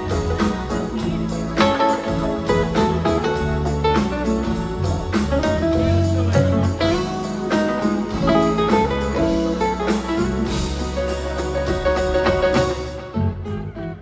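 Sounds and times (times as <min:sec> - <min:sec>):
drums keeping a steady beat: 0:00.0 - 0:13.7
bass: 0:00.0 - 0:14.0
guitar lead: 0:00.0 - 0:14.0.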